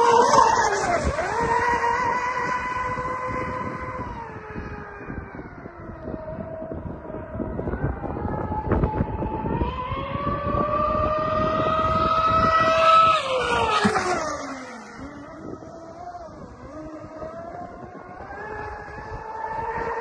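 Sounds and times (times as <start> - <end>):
electric speedboat motor whine: 0.0 - 20.0.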